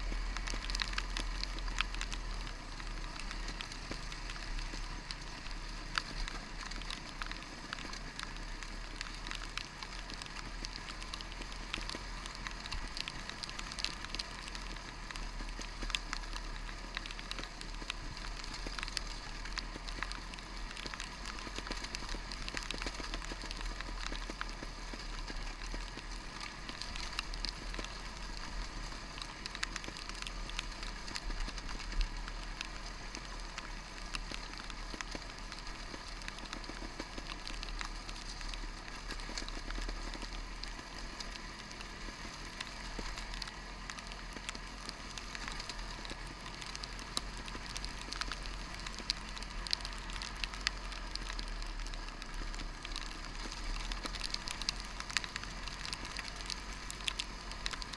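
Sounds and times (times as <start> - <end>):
rain pattering on camera: 0.0 - 57.9.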